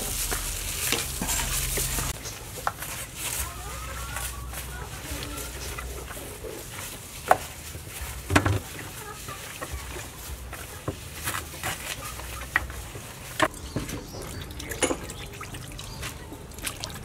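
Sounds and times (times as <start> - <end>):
bowls and utensils clattering: 0.0 - 17.0.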